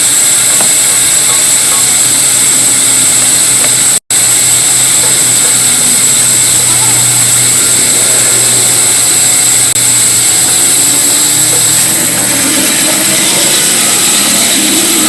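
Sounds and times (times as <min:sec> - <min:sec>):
power tool running: 0:00.0 - 0:15.0.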